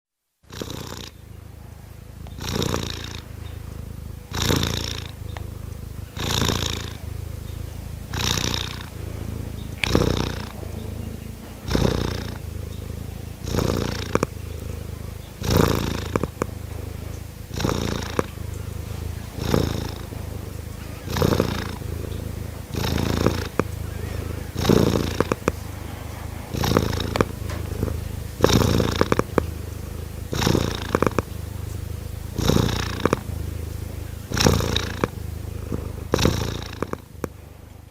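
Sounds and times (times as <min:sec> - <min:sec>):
cats purring: 0:00.4 - 0:37.9.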